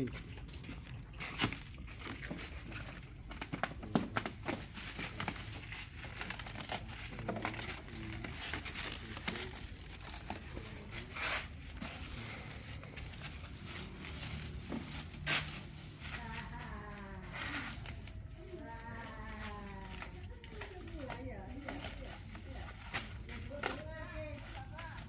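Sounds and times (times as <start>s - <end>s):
plastic wrap crinkling: 0.0s - 25.0s.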